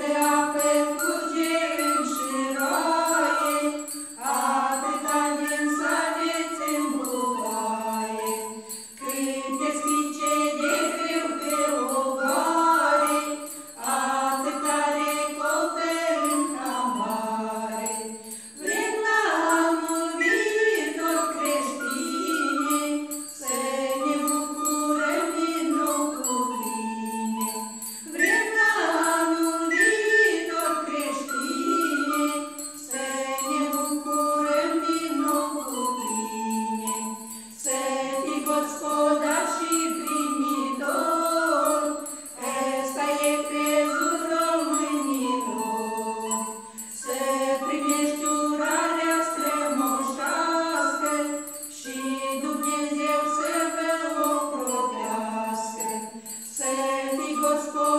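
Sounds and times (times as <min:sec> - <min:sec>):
hand bells jingling: 0:00.0 - 0:57.9
women singing in unison: 0:00.0 - 0:57.9.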